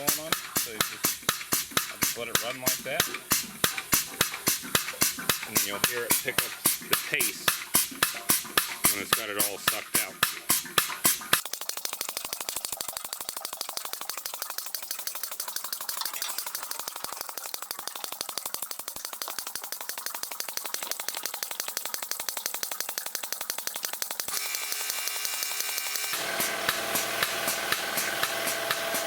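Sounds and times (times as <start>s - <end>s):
air pump rattling clicks: 0.0s - 12.8s, 13.7s - 29.0s.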